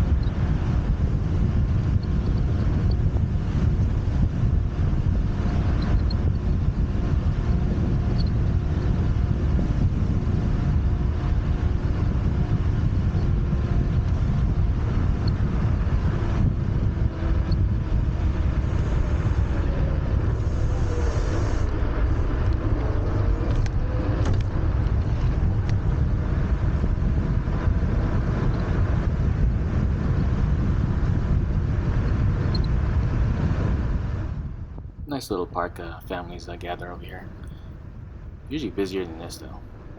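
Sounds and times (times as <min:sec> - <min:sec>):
road rumble: 0:00.0 - 0:39.9
wind rush on microphone: 0:00.0 - 0:39.9.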